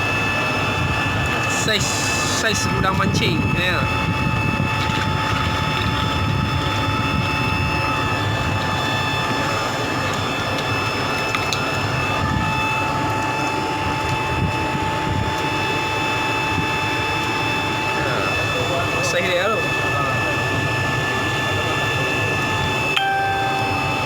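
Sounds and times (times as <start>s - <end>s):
motor droning with high whine: 0.0s - 24.0s.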